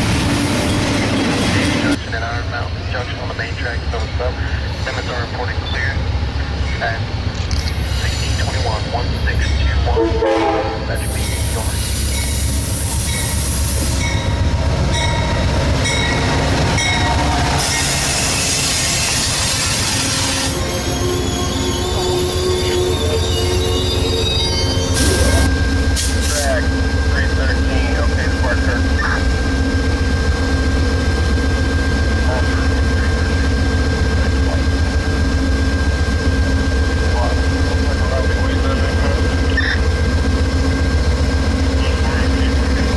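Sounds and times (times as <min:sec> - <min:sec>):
train rumble and wheel noise: 0:00.0 - 0:42.9.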